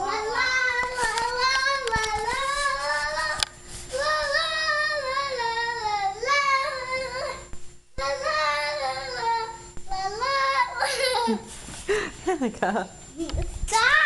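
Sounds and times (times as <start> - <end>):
young child singing: 0.0 - 11.4, 13.7 - 14.0.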